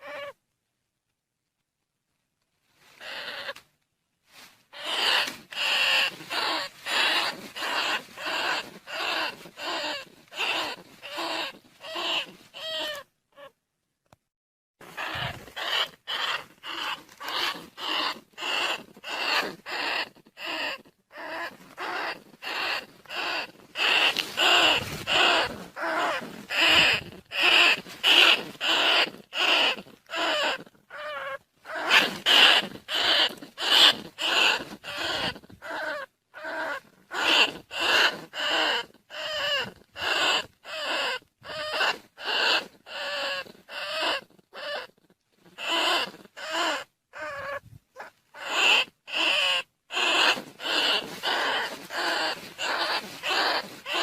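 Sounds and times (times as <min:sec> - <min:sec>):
rat calls squealing: 0:00.0 - 0:00.4, 0:03.0 - 0:03.6, 0:04.7 - 0:13.5, 0:14.8 - 0:54.0.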